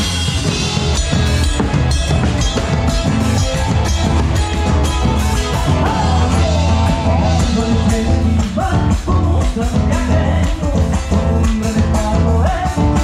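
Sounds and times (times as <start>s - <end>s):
drum kit: 0.0s - 13.0s
electric bass: 0.0s - 13.0s
electric guitar: 0.0s - 13.0s.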